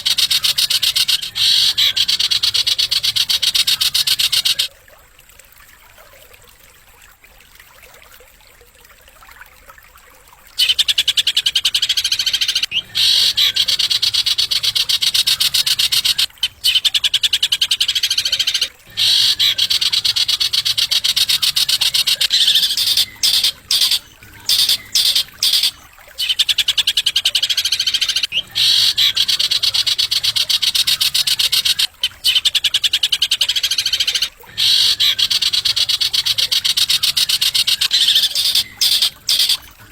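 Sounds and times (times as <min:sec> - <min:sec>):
songbird trilling: 0:00.0 - 0:04.7, 0:10.6 - 0:39.9.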